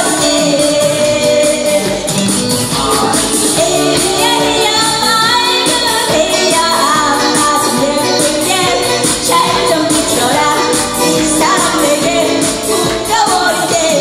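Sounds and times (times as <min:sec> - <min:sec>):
backing music with steady beat: 0:00.0 - 0:14.0
woman singing into a microphone: 0:00.0 - 0:14.0.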